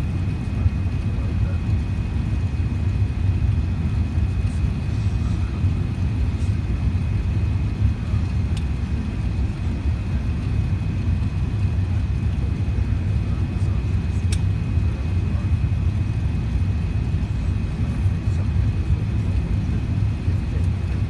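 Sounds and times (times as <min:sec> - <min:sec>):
airliner engine rumble: 0:00.0 - 0:21.0.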